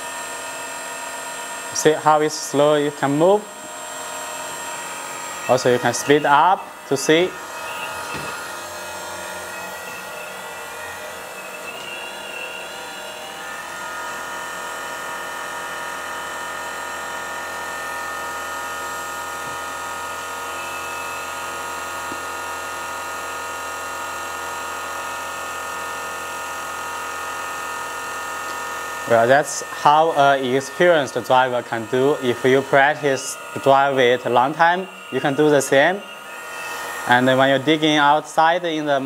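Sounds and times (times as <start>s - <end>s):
toy excavator motor whining: 0.0s - 39.0s.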